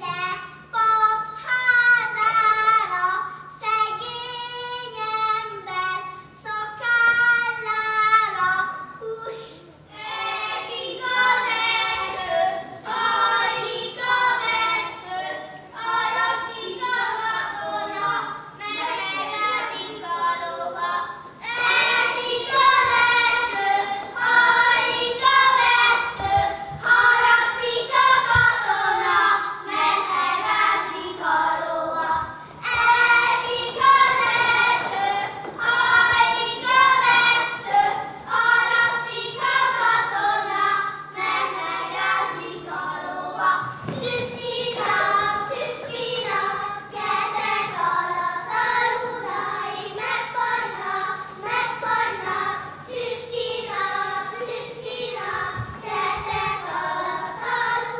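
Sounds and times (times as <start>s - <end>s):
children singing a folk song: 0.0s - 57.9s.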